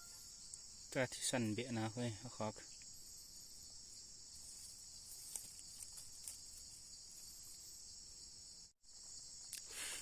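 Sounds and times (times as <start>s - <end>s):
insects shrilling: 0.0s - 10.0s.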